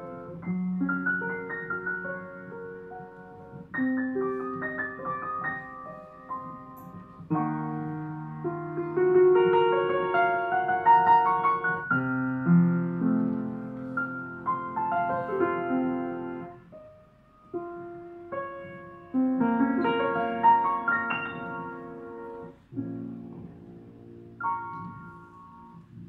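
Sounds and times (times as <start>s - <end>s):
upright piano playing: 0.0s - 26.0s.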